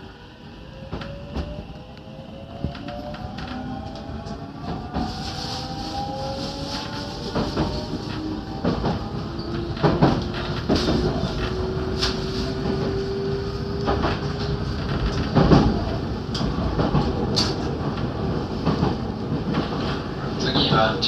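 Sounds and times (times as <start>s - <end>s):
electric train rumble: 0.0s - 21.0s.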